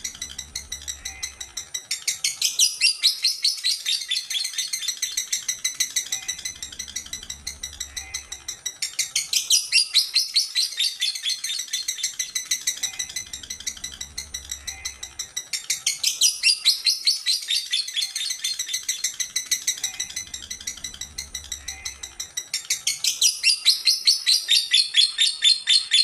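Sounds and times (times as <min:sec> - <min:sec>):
lovebird shrill chirps: 0:00.0 - 0:26.0.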